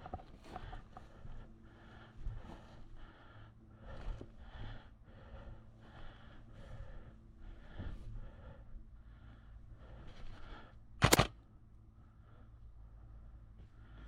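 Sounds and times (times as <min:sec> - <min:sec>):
person breathing heavily: 0:00.0 - 0:14.0.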